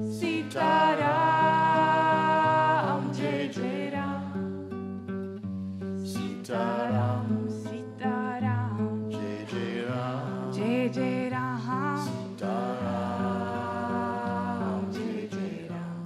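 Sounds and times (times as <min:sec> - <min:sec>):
song with singing over guitar: 0:00.0 - 0:05.0, 0:06.1 - 0:16.0.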